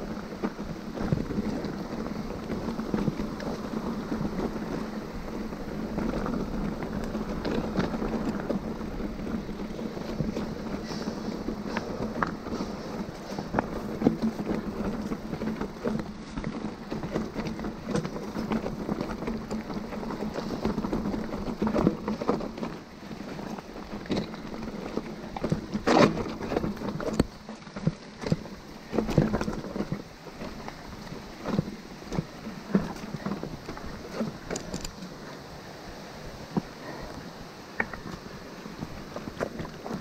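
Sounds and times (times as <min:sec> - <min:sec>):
bike knocks and rattles: 0:00.0 - 0:35.1
bike tyre and drivetrain hum: 0:00.0 - 0:40.0.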